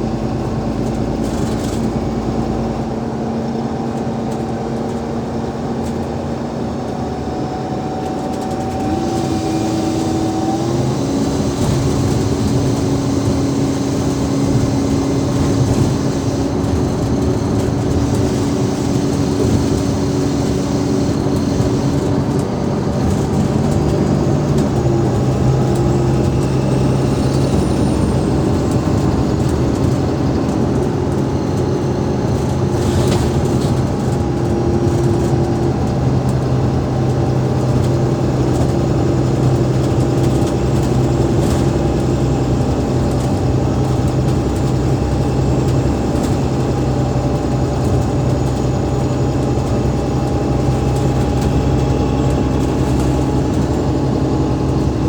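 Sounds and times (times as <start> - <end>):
bus engine and gearbox whining: 0.0 - 55.0.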